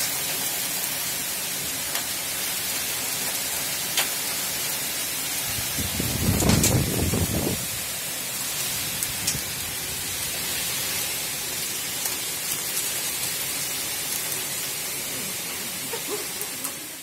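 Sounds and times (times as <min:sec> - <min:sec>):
drops or hailstones ticking: 0:00.0 - 0:04.4, 0:05.6 - 0:07.5, 0:08.5 - 0:16.9
heavy rain hiss: 0:00.0 - 0:17.0.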